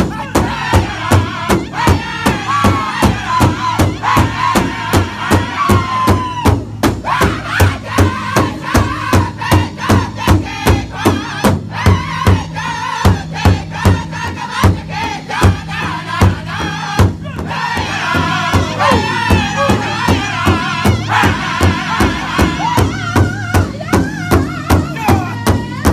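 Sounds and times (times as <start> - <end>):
large drum beating: 0.0 - 25.9
men singing in high voices: 0.0 - 25.9.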